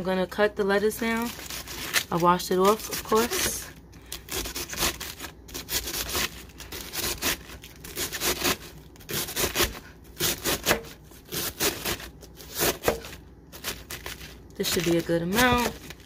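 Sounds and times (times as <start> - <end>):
knife slicing lettuce: 0.9 - 16.0.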